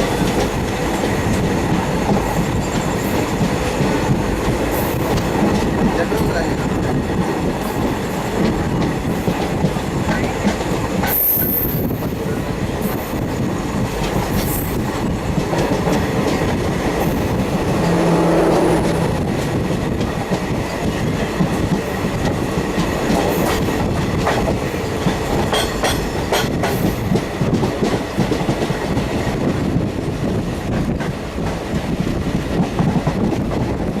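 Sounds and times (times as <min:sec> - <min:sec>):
train wheels clattering on rails: 0:00.0 - 0:34.0.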